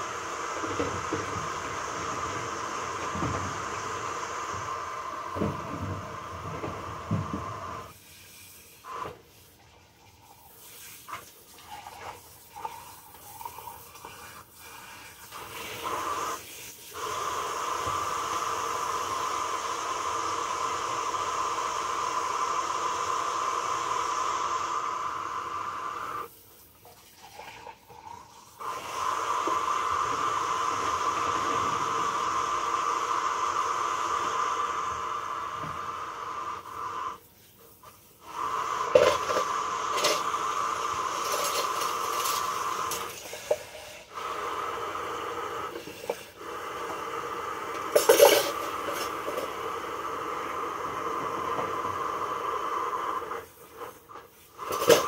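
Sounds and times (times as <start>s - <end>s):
kitchen hiss: 0.0s - 55.0s.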